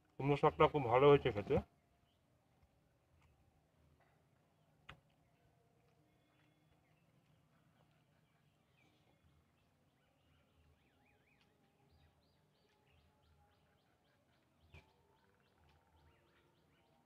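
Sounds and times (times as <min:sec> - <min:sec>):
faint bird chirps: 0:03.2 - 0:17.0.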